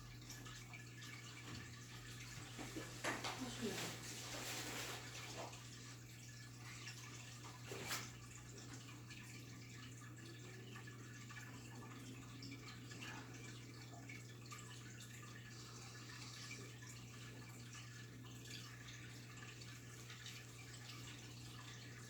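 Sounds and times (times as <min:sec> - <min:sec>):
water drips and splashes: 0:00.0 - 0:22.0.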